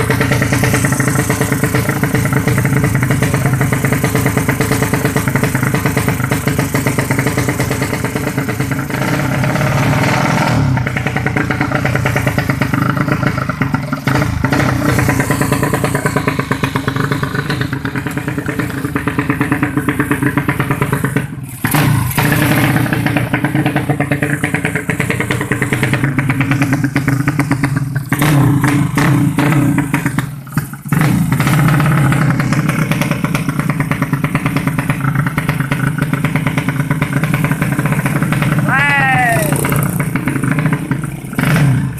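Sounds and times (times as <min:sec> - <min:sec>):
racing motorcycle engine running hard: 0:00.0 - 0:41.9.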